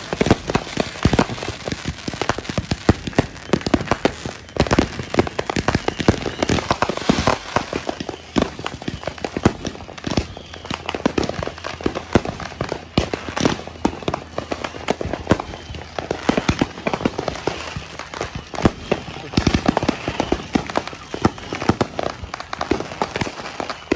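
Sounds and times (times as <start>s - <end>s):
fireworks and firecrackers banging: 0.0s - 23.9s.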